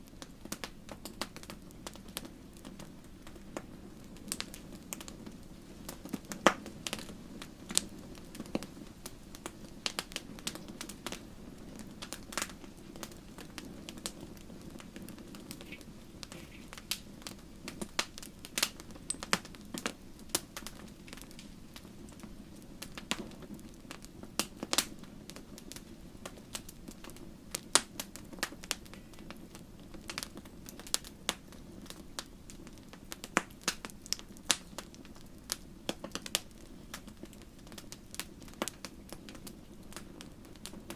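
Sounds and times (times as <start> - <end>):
low hiss of burning: 0.0 - 40.9
wood fire crackling and popping: 0.0 - 40.9.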